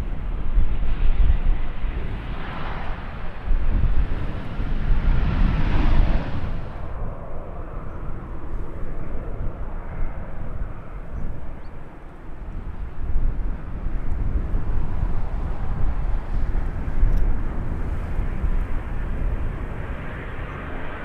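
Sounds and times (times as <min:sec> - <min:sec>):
jet airliner engine noise: 0:00.0 - 0:21.0.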